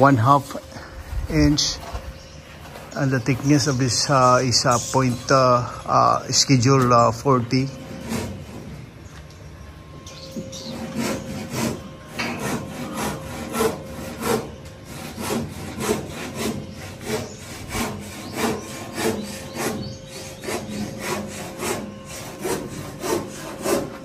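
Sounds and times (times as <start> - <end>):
hand saw strokes: 2.8 - 8.9, 10.3 - 24.0.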